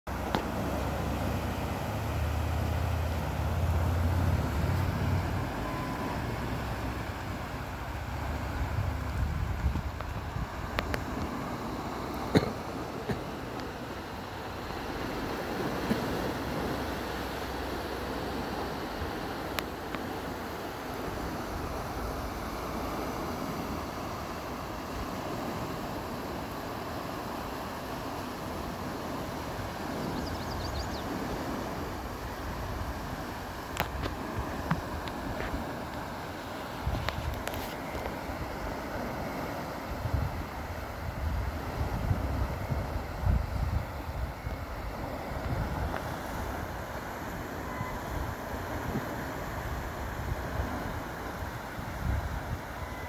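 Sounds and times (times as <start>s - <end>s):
water rushing and churning: 0.1s - 53.0s.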